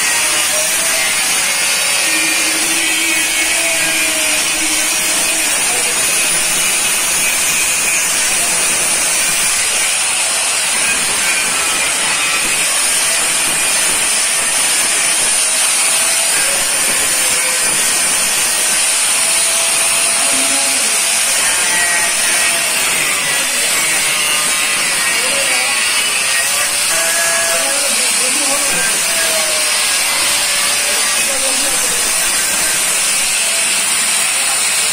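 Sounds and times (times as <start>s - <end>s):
angle grinder grinding steel: 0.0s - 34.9s.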